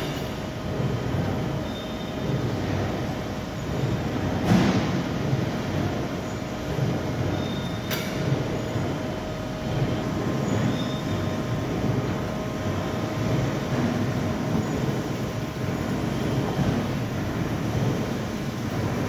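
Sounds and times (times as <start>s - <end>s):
machinery rumble and hum: 0.0s - 19.0s.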